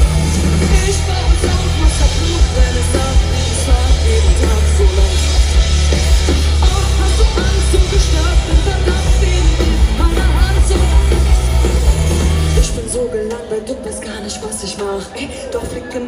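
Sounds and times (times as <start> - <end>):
live pop-rock band: 0.0 - 16.0.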